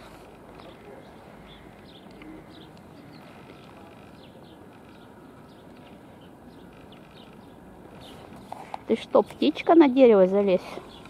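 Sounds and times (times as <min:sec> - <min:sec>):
small birds chirping: 0:00.0 - 0:11.0
steady background noise: 0:00.0 - 0:11.0.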